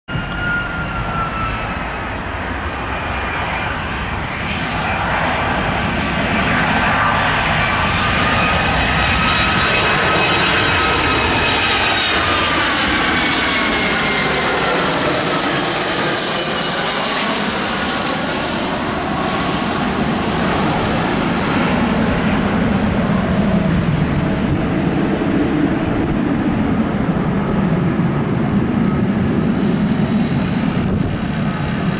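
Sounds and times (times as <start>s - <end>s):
jet engines roaring: 0.1s - 31.9s.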